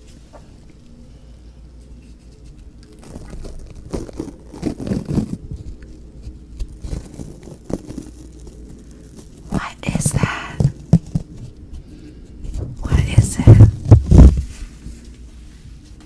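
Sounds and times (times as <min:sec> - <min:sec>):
soft crunching and crinkling: 0:00.0 - 0:16.0.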